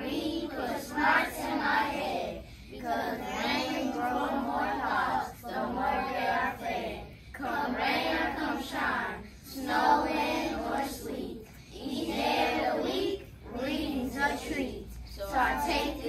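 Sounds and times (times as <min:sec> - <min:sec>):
children reciting in unison: 0:00.0 - 0:16.0.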